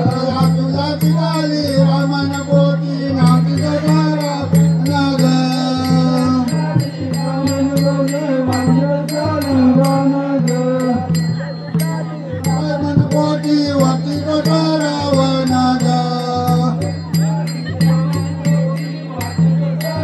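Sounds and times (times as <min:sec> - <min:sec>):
person singing: 0:00.0 - 0:20.0
sharp percussive strikes: 0:00.0 - 0:20.0.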